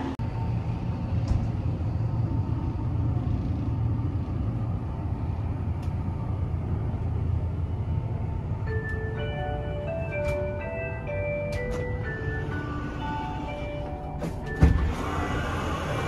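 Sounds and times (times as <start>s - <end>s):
train hum and rumble: 0.0s - 16.0s.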